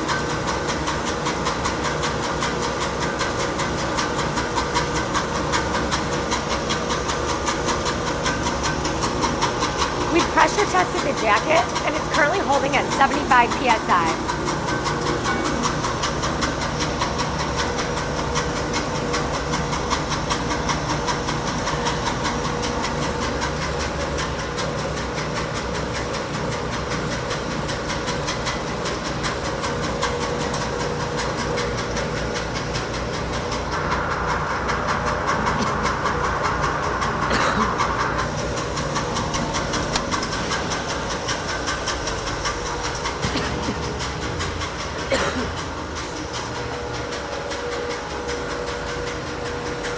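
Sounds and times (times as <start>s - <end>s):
mixer mechanical drone: 0.0s - 49.9s.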